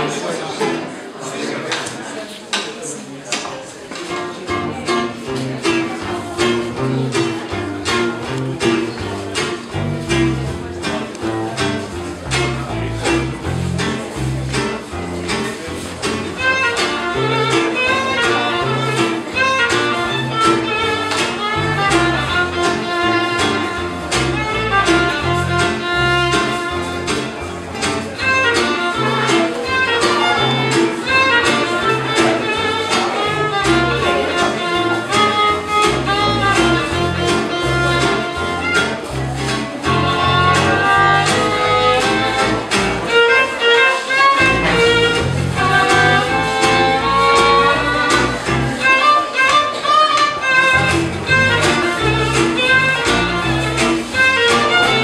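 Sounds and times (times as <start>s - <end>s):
acoustic bass guitar walking: 3.9s - 55.0s
guitars strumming rhythm: 3.9s - 55.0s
violin melody: 4.0s - 55.0s.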